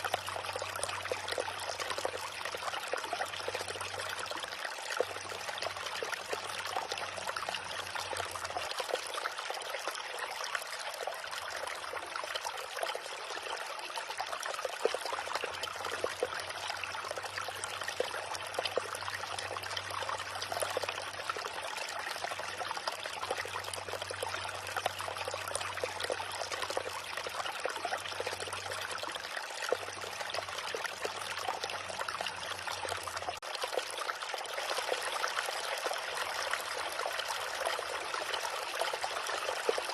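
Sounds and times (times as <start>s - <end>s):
river babbling over stones: 7.8s - 39.9s.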